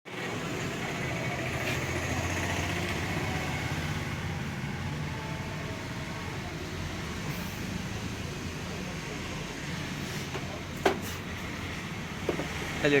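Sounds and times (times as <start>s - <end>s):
low engine hum: 0.1s - 12.9s.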